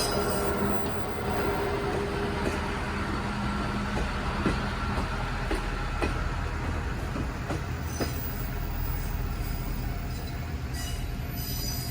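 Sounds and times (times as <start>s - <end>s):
diesel railcar rumble: 0.0s - 11.9s.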